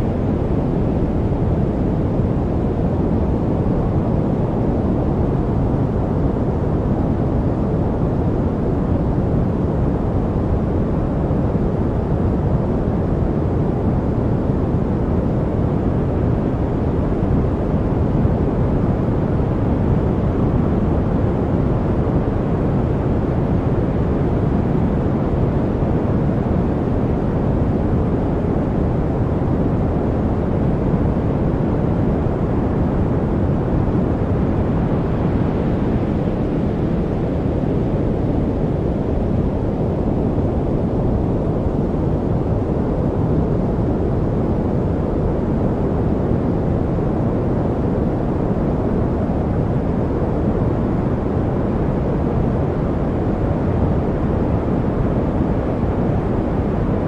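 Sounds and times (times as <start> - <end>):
deep muffled white noise: 0.0 - 57.0.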